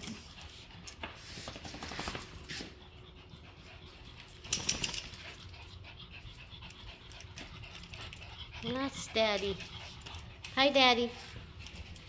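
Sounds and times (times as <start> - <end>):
dogs moving on tile floor: 0.0 - 2.8, 3.4 - 12.0
dogs sniffing: 0.0 - 12.0.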